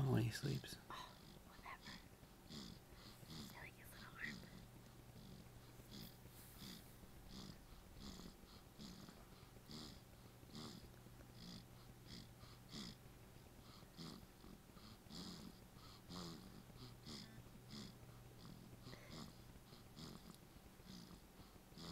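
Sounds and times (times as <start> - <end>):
baby snoring softly: 0.0 - 21.9.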